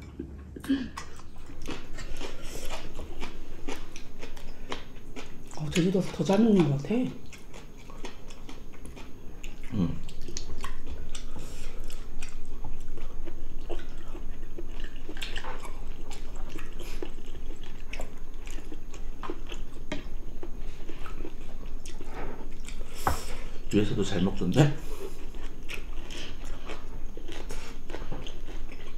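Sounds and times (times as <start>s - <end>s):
people chewing food: 0.0s - 28.9s.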